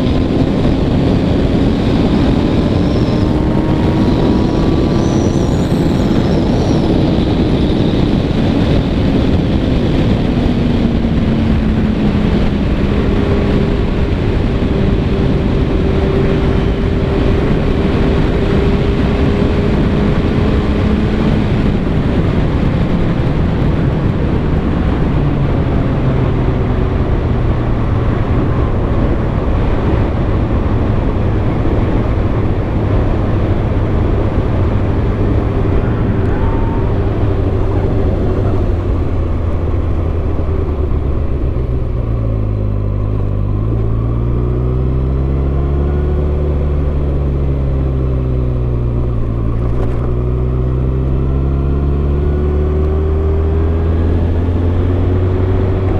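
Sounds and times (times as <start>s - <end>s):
motorcycle engine at speed: 0.0s - 55.9s
rush of wind and spray: 0.0s - 55.9s.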